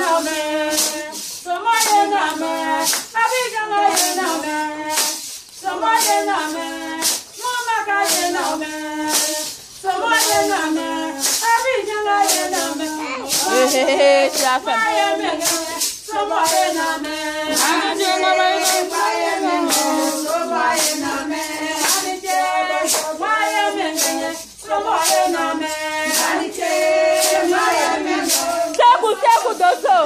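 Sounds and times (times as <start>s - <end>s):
sharp percussive strokes: 0.0s - 30.0s
voices singing: 0.0s - 30.0s.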